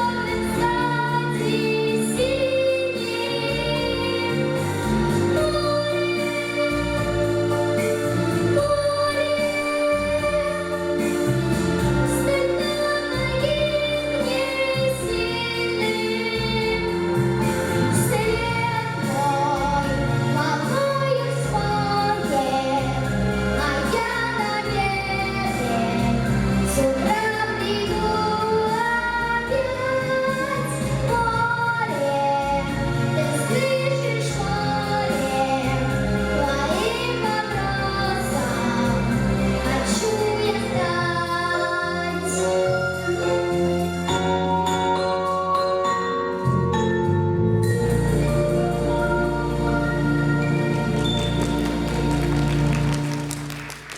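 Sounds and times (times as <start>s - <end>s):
boy singing pop ballad: 0.0s - 45.4s
instrumental backing track: 0.0s - 53.9s.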